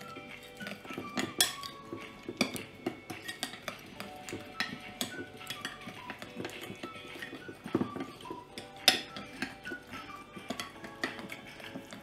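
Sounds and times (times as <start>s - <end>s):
spoon clinking against glass bowl: 0.0s - 12.0s.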